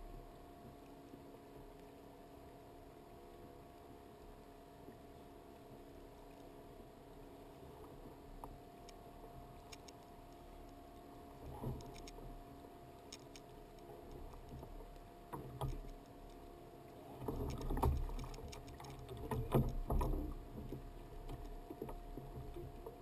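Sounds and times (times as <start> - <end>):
faint steady tone: 0.0 - 23.0.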